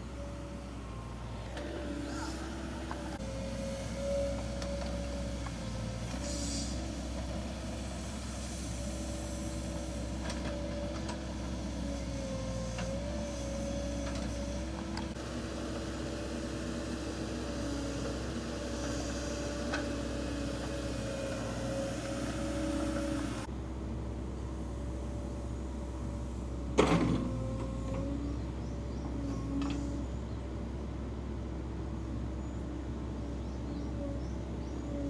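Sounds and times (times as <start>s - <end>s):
excavator engine rumble: 0.0s - 35.0s.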